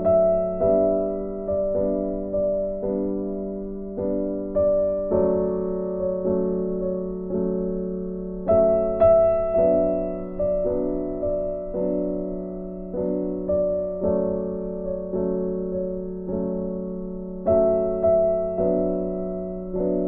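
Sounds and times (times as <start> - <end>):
slow gentle piano chords: 0.0 - 20.0.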